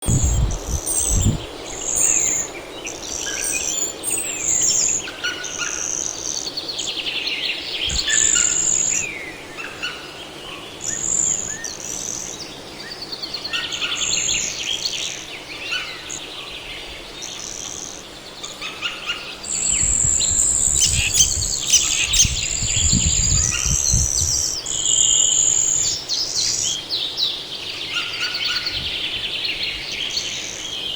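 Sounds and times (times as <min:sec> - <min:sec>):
birds chirping and trilling: 0:00.0 - 0:30.9.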